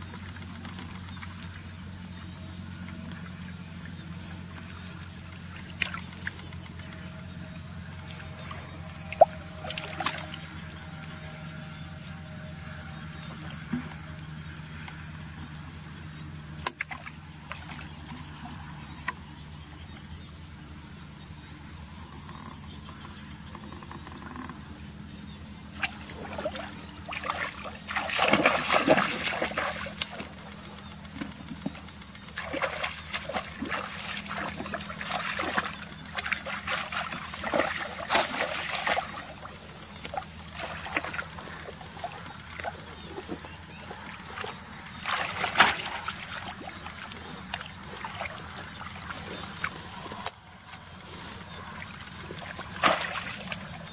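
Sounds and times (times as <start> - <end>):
water splashing and sloshing: 0.0 - 19.4, 25.6 - 53.9
steady low hum: 0.0 - 53.9.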